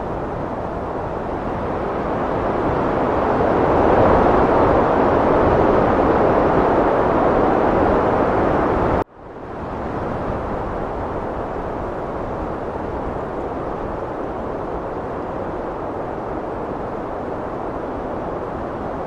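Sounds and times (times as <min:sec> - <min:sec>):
heavy wind blowing: 0:00.0 - 0:19.0.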